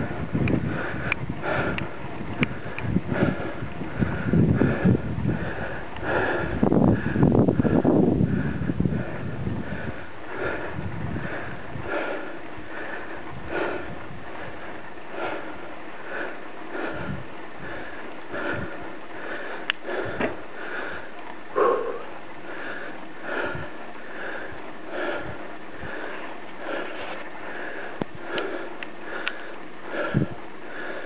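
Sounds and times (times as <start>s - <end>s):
cyclist heavy breathing: 0.0s - 31.0s.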